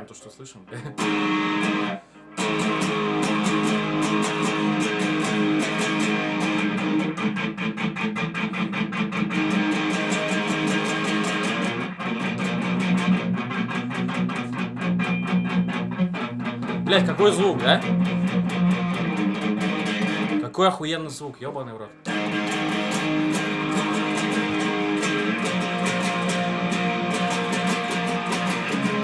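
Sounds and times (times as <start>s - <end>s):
electric guitar strummed riff: 0.7s - 20.5s, 21.9s - 29.0s.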